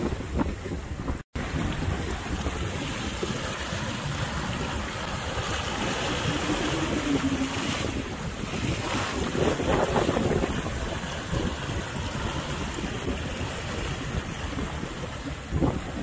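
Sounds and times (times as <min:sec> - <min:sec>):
waves rushing along a hull: 0:00.0 - 0:16.0
wind buffeting the microphone: 0:00.0 - 0:16.0.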